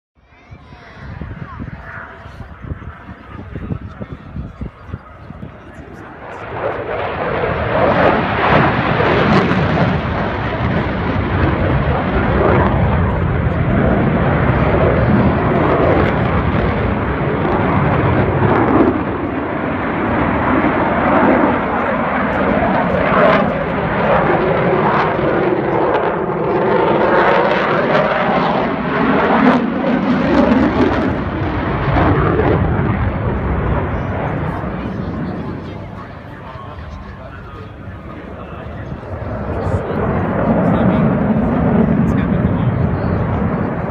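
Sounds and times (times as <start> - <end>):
jet flying past: 0.2 - 43.9.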